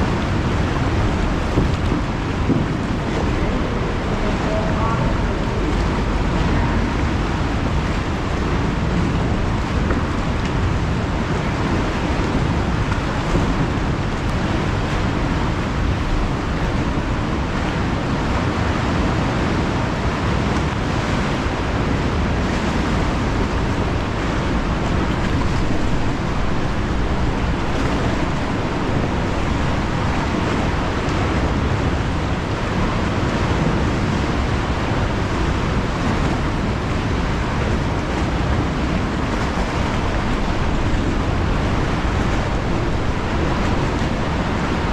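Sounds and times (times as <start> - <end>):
sea waves washing in a cave: 0.0 - 44.9.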